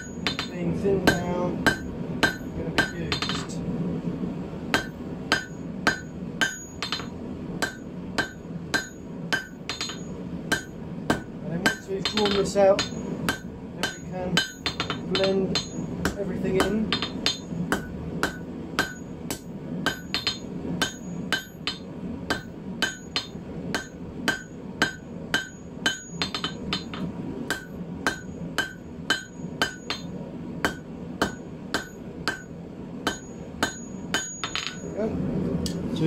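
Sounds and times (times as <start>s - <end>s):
hammer striking steel on anvil: 0.0s - 3.6s, 4.7s - 35.0s.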